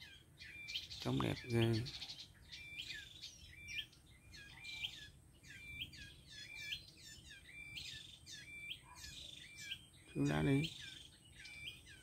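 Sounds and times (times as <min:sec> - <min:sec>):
songbird whistled call: 0:00.0 - 0:12.0.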